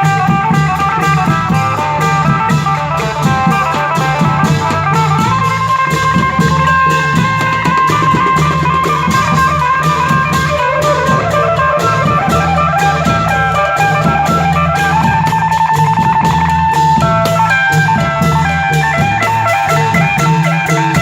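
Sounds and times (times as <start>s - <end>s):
drum kit beat: 0.0s - 21.0s
plucked electric guitar lead: 0.0s - 21.0s.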